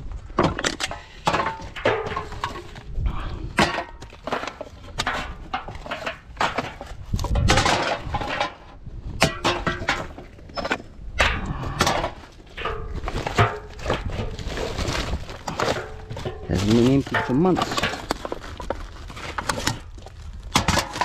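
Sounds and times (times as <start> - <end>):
rummaging through rubbish: 0.3 - 21.0
aluminium cans clattering: 0.4 - 21.0.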